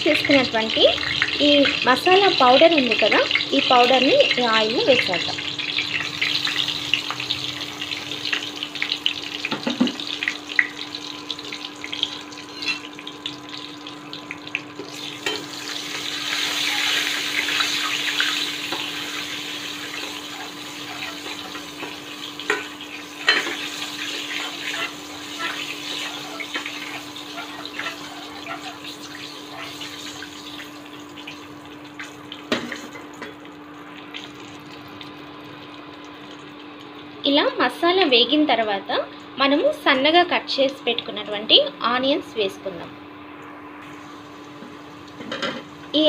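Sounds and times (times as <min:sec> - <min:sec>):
spice sizzling in hot oil: 0:00.0 - 0:38.6, 0:43.8 - 0:46.0.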